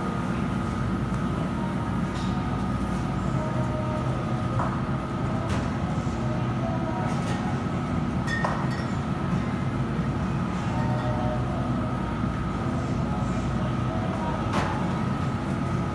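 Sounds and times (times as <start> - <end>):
room hum: 0.0 - 15.9.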